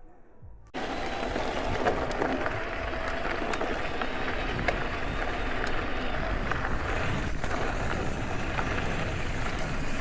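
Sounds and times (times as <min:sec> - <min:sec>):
bike tyres rolling on dirt: 0:00.8 - 0:10.0.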